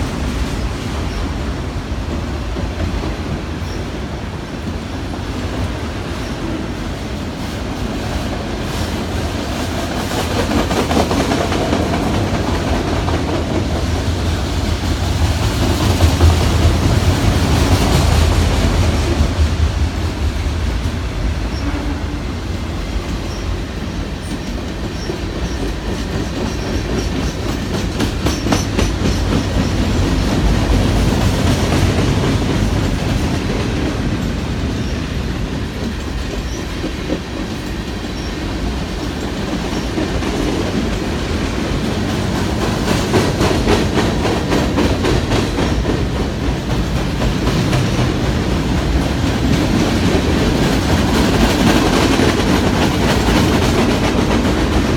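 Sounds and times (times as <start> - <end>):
freight train cars rumbling: 0.0 - 54.9.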